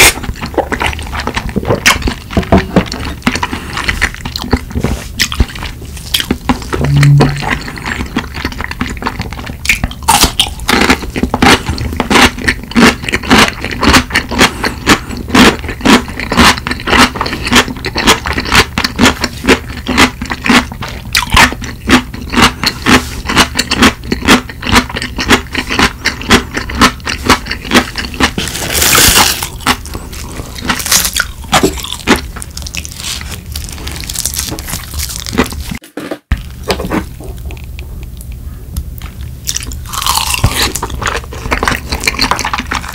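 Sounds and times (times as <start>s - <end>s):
crunchy food being chewed: 0.0s - 42.9s.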